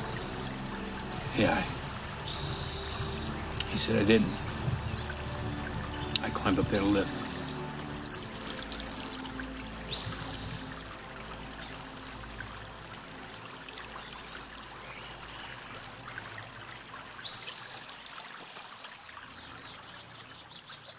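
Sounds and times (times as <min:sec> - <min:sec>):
running water rushing: 0:00.0 - 0:20.9.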